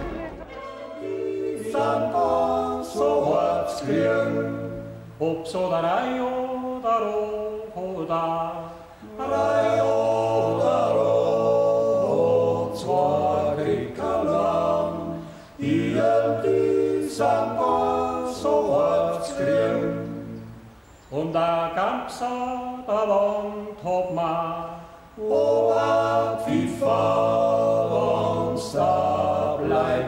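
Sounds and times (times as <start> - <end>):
male vocal quartet singing: 0.0 - 30.0.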